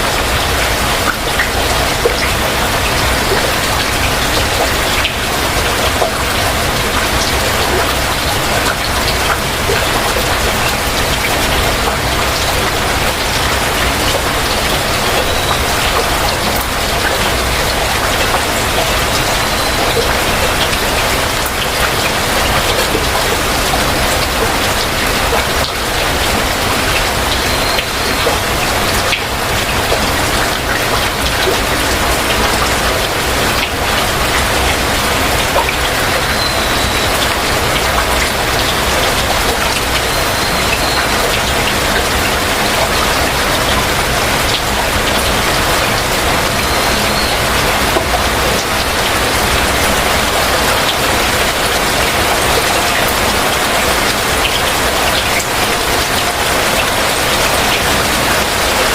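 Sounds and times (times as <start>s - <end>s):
heavy rain falling: 0.0s - 58.9s
raindrops ticking: 0.0s - 58.9s.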